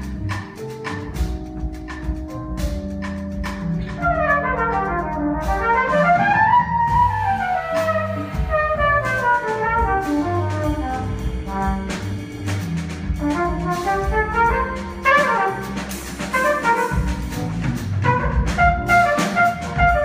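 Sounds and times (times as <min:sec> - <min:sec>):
brass melody: 0:00.0 - 0:20.0
drum hits: 0:00.0 - 0:20.0
jazz fusion band with orchestra: 0:00.0 - 0:20.0.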